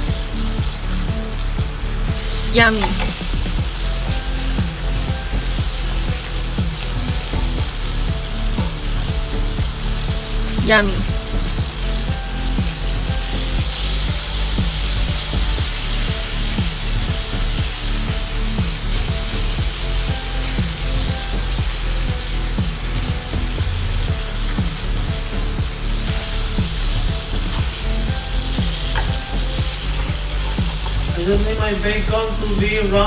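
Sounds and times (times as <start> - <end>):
bacon sizzling in a pan: 0.0 - 33.0
steady low beat: 0.0 - 33.0.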